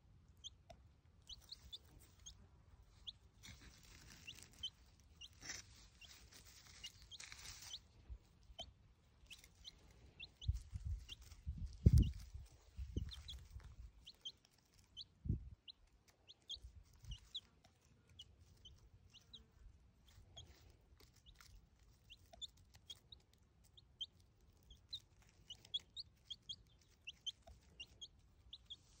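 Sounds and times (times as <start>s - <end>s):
chick peeping: 0.2s - 29.0s.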